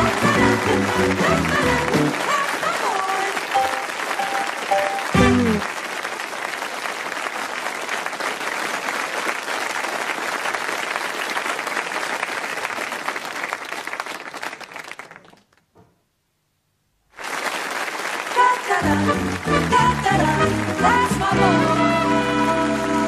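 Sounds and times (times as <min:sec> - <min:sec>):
audience applauding: 0:00.0 - 0:15.7, 0:17.1 - 0:23.0.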